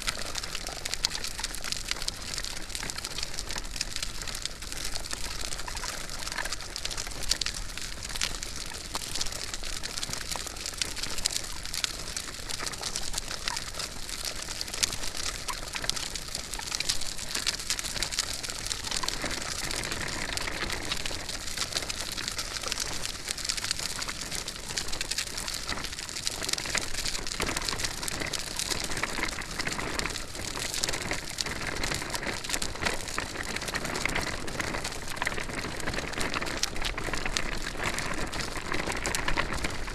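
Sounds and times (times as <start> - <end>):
stroller wheels rolling: 0.0 - 39.9.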